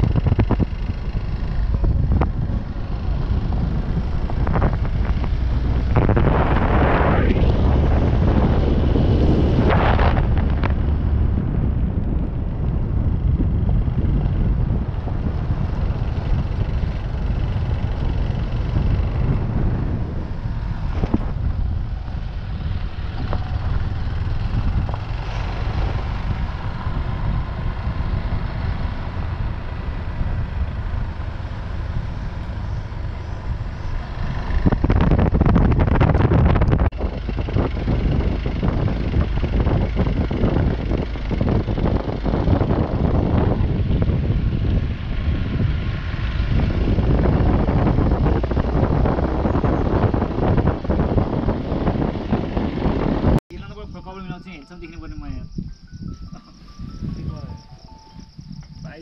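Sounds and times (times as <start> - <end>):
motorcycle engine running: 0.0 - 54.6
wind rushing on microphone: 0.0 - 59.0.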